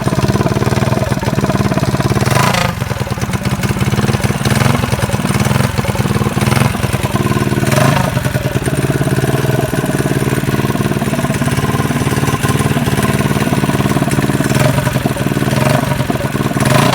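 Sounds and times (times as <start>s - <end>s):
minibike engine idling: 0.0s - 16.9s.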